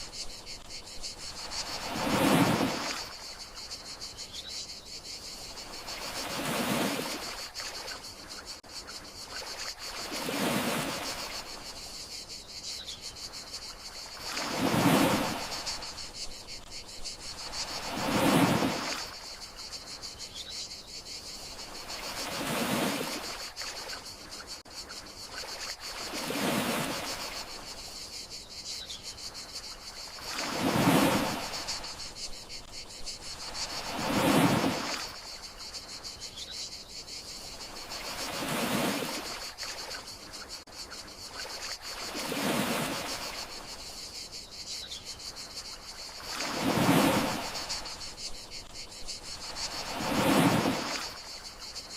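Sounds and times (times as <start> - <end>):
crickets chirring: 0.0 - 51.9
gentle sea waves: 0.0 - 51.9.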